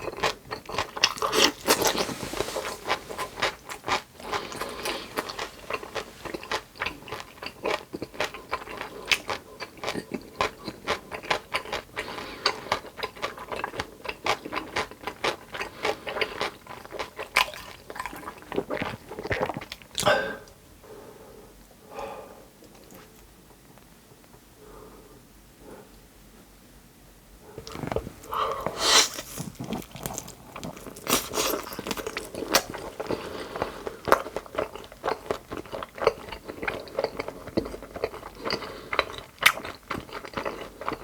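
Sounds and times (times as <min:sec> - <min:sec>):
crisp crunching and chewing: 0:00.0 - 0:20.1, 0:27.6 - 0:41.0.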